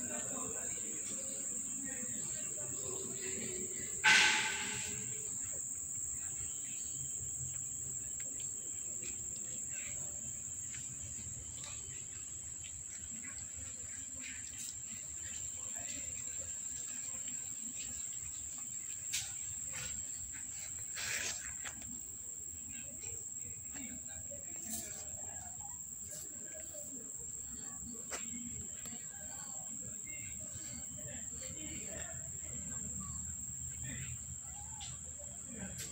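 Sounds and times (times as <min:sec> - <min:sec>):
insects trilling: 0:00.0 - 0:35.9
faint chirps and ticks: 0:05.1 - 0:35.9.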